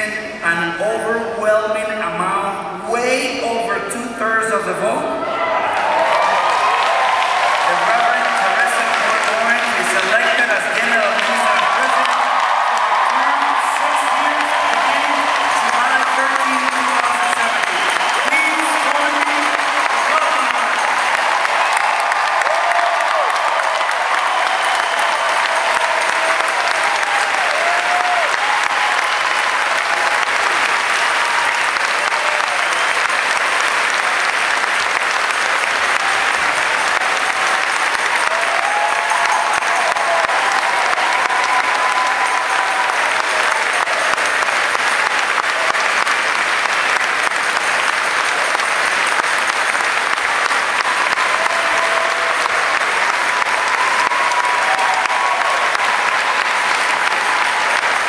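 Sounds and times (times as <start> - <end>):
audience applauding: 5.2 - 58.0.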